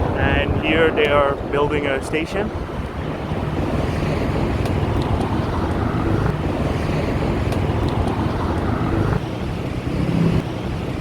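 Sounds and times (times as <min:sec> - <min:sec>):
road traffic rumble: 0:00.0 - 0:11.0
wind buffeting microphone: 0:00.0 - 0:11.0.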